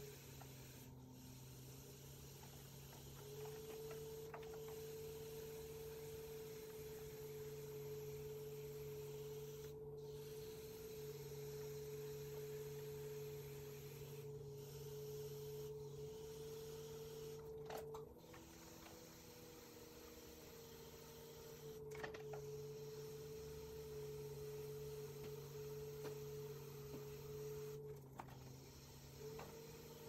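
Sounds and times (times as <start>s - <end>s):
potter's wheel motor hum: 0.0s - 30.0s.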